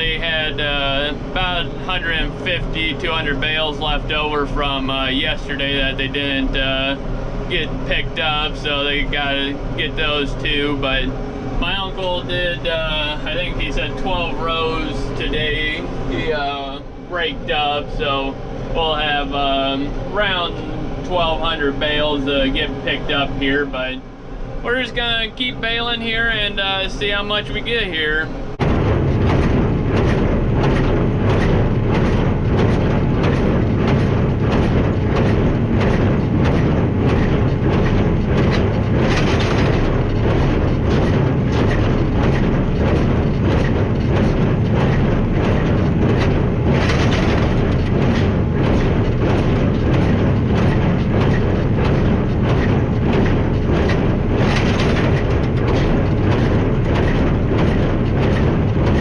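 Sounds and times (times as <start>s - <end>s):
baler rush: 0.0s - 59.0s
tractor engine drone: 0.0s - 59.0s.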